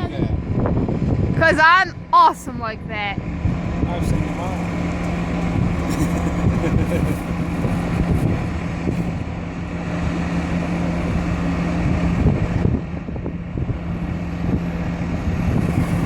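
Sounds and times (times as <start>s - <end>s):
vehicle engine idling: 0.0s - 16.0s
wind buffeting microphone: 0.0s - 16.0s.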